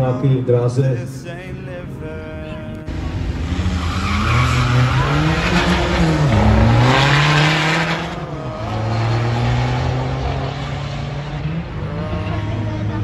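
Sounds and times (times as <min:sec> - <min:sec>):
diesel cars accelerating: 0:00.0 - 0:13.0.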